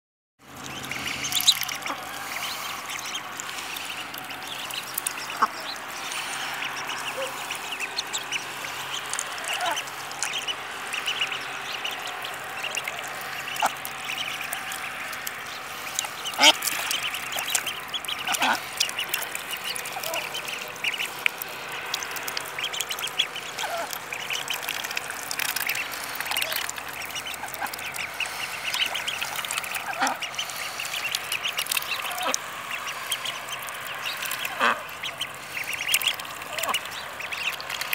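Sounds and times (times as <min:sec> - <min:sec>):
ducklings peeping: 0:00.4 - 0:37.9
duck calls: 0:00.8 - 0:37.9.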